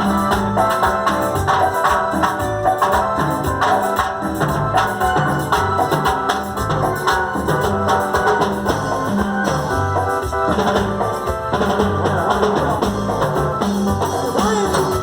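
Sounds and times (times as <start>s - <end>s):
band playing cumbia music: 0.0s - 15.0s.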